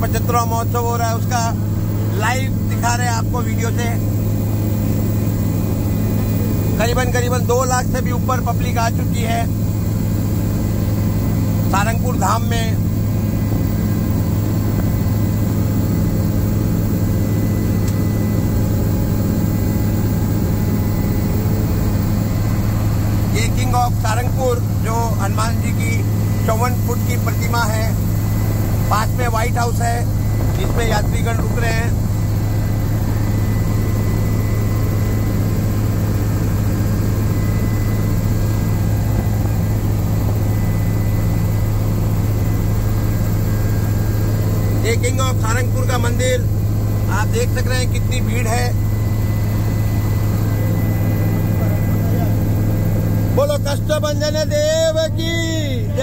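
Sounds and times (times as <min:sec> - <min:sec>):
faint high whine: 0:00.0 - 0:56.0
helicopter rotor and engine drone: 0:00.0 - 0:56.0.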